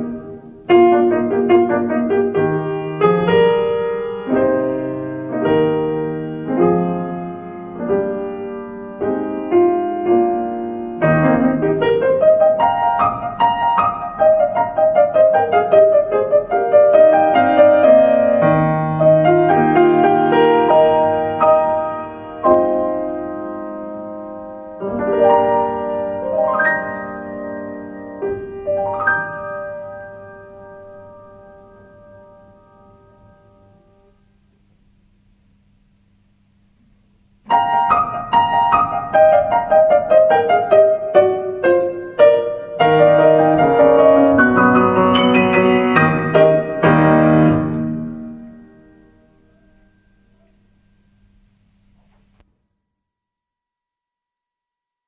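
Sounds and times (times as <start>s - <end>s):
solo piano playing: 0.0s - 34.4s, 37.4s - 51.6s.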